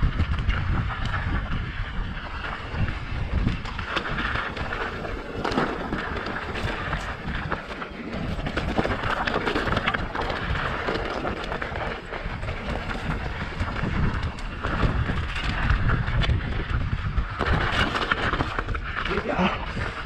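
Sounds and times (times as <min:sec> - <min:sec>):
bike knocking and rattling: 0:00.0 - 0:20.0
bike tyres crunching on gravel: 0:00.0 - 0:20.0
wind rumble on microphone: 0:00.0 - 0:20.0.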